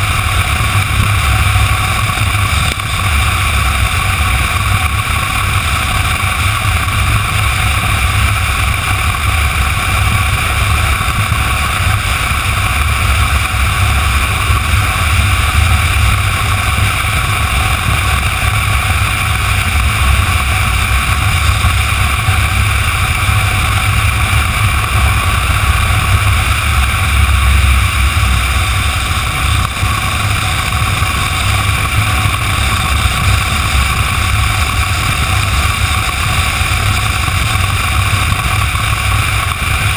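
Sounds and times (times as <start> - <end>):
motorcycle engine: 0.0 - 39.9
wind rumble on microphone: 0.0 - 39.9.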